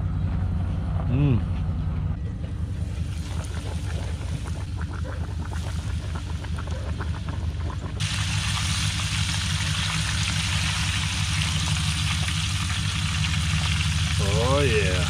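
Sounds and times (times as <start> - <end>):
low steady rumble: 0.0 - 15.0
fish frying in oil: 2.8 - 15.0.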